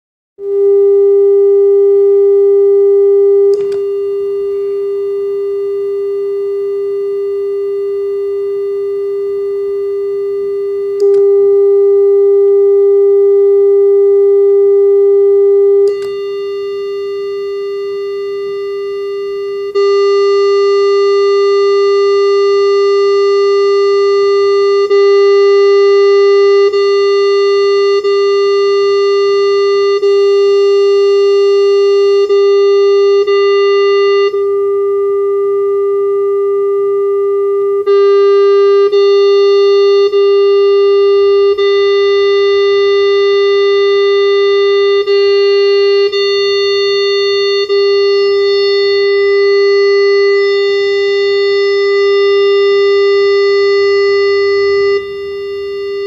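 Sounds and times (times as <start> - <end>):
electronic test tone: 0.4 - 56.0.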